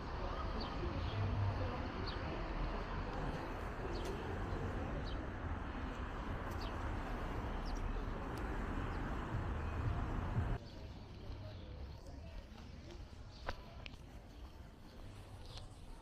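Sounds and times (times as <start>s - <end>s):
traffic hum: 0.0s - 16.0s
small birds chirping: 0.2s - 16.0s.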